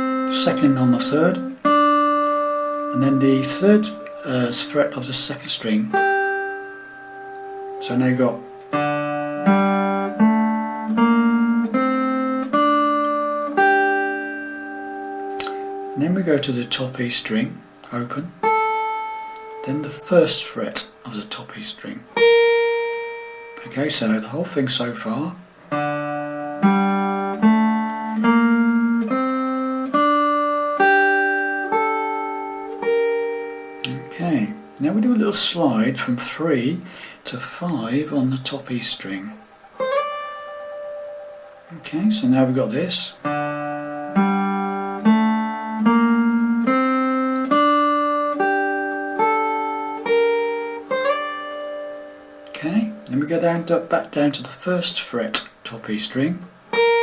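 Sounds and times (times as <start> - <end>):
acoustic guitar picked notes: 0.0 - 57.0.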